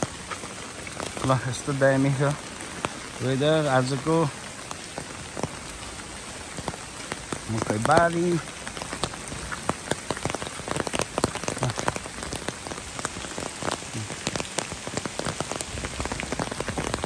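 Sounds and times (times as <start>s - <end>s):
raindrops tapping: 0.0s - 17.0s
steady rain hiss: 0.0s - 17.0s.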